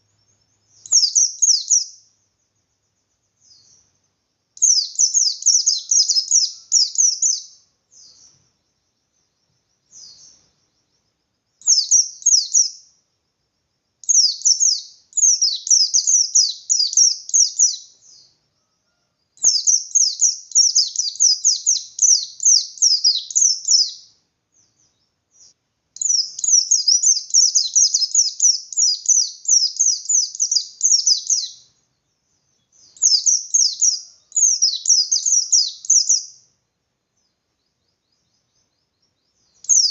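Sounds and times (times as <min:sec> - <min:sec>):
white-eye bird singing: 0:00.0 - 0:13.2, 0:13.9 - 0:39.9.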